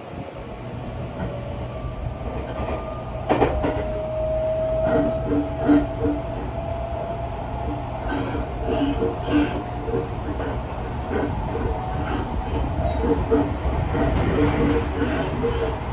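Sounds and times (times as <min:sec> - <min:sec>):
train wheels rumbling on track: 0:00.0 - 0:15.9.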